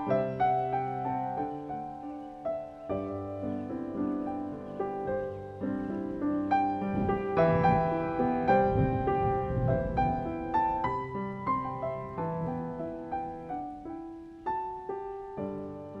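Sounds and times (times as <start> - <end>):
gentle solo piano melody: 0.0 - 16.0.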